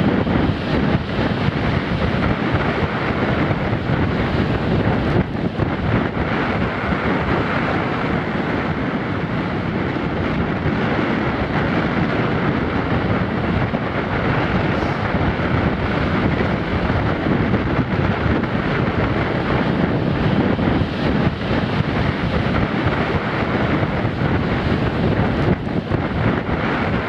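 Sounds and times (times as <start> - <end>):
surf breaking on beach: 0.0 - 27.0
wind buffeting microphone: 0.0 - 27.0.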